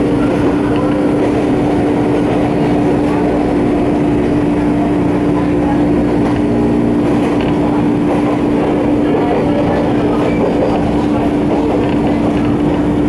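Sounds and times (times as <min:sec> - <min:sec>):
train running gear rumbling: 0:00.0 - 0:13.0.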